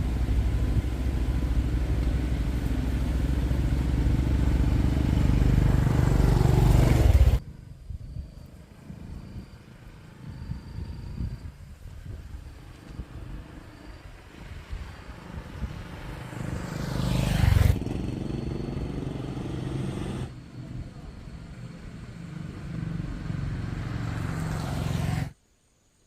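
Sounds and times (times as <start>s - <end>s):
vehicle engine running: 0.0s - 7.7s, 11.8s - 25.3s.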